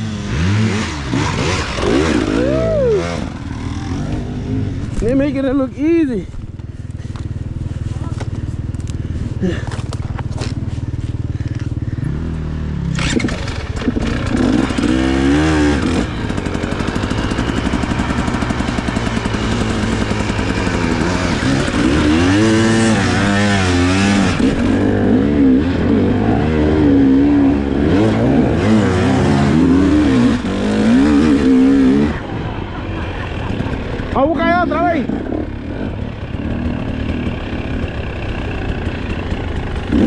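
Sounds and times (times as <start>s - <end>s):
dirt bike engine revving: 0.0s - 6.0s, 7.0s - 40.0s.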